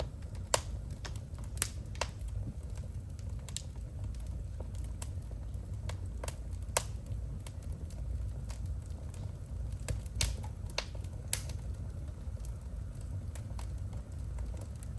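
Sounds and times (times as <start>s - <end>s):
low rumble of flames: 0.0s - 14.9s
wood fire crackling: 0.0s - 14.9s.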